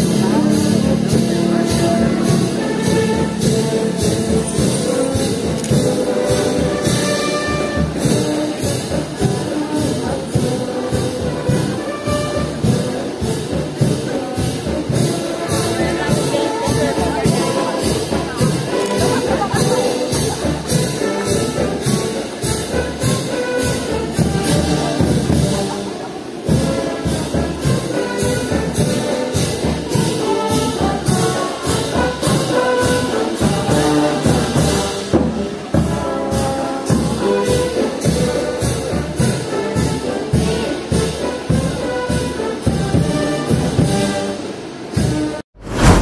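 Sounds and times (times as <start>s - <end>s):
steady drum beat: 0.0s - 39.3s, 45.6s - 46.0s
brass band music: 0.0s - 46.0s.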